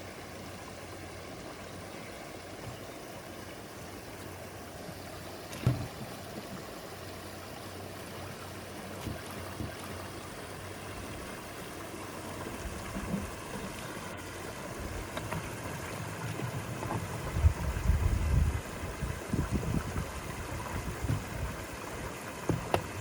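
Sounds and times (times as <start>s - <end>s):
creek water flowing over rocks: 0.0s - 23.0s.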